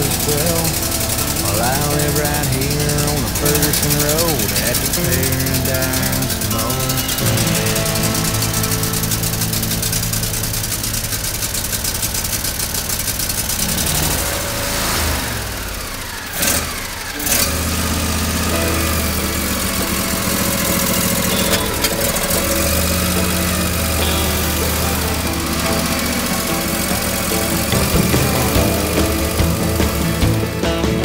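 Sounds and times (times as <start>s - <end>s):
mower engine running: 0.0s - 31.0s.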